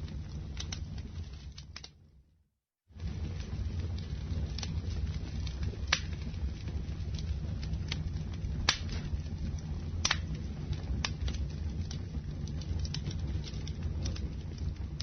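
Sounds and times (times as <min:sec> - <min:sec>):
burning wood crackling and popping: 0:00.0 - 0:02.1, 0:02.9 - 0:15.0
low rumble of flames: 0:00.0 - 0:15.0.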